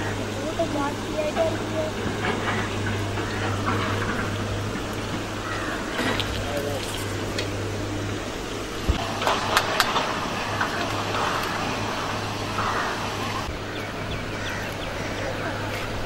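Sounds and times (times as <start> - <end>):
low hum: 0.0 - 16.0
outdoor background rumble: 0.0 - 16.0.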